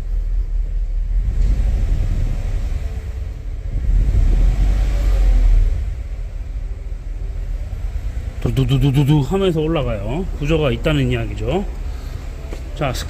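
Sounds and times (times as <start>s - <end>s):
car engine running rough: 0.0s - 13.0s.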